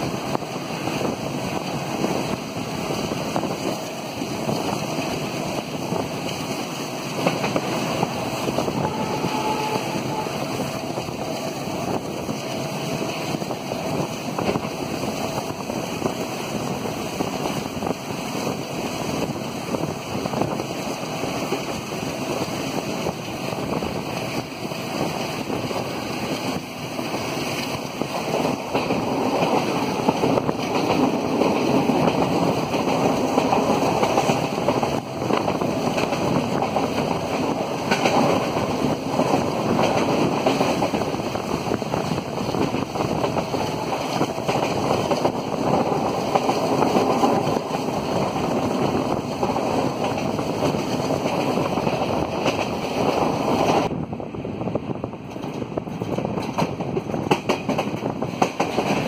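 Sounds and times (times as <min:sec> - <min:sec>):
train wheels rumbling on rails: 0:00.0 - 0:59.0
wind on microphone: 0:00.0 - 0:59.0.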